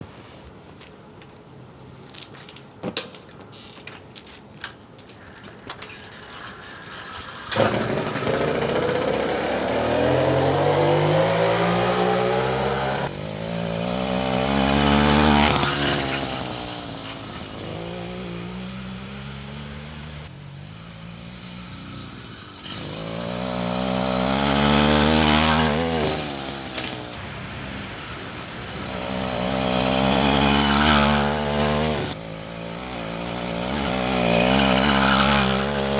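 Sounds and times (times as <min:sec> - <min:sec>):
small petrol engine revving: 0:05.6 - 0:35.9.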